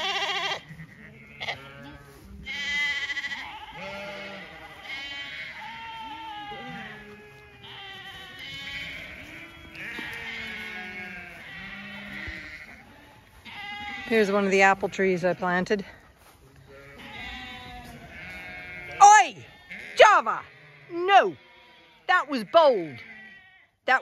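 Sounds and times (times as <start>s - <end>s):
sheep and lambs bleating: 0.0s - 24.0s.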